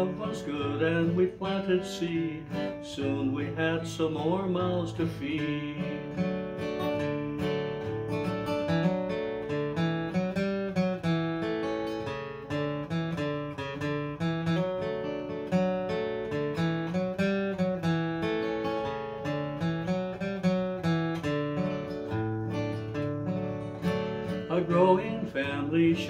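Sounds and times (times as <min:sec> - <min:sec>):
acoustic guitar picking: 0:00.0 - 0:26.0.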